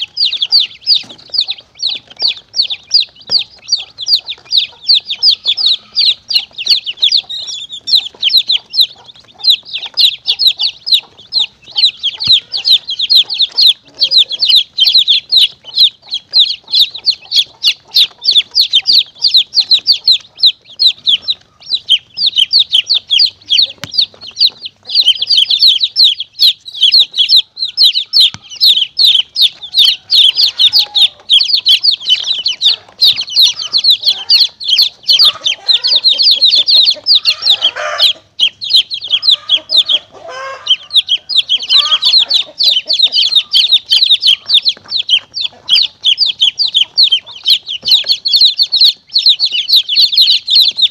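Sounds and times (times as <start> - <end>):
chicks peeping rapidly: 0.0 - 50.9.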